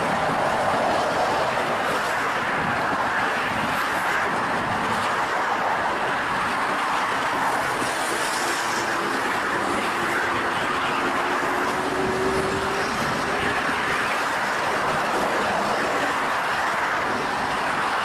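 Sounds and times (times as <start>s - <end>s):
moving vehicle rush: 0.0s - 18.0s.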